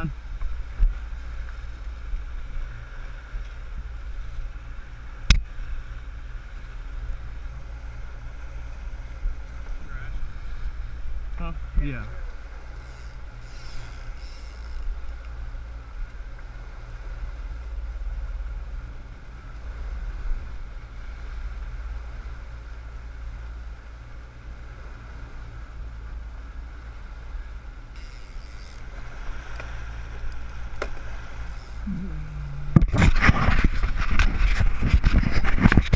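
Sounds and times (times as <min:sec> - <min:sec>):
rushing wash of wake: 0:00.0 - 0:14.3, 0:14.9 - 0:35.9
boat engine running: 0:00.0 - 0:35.9.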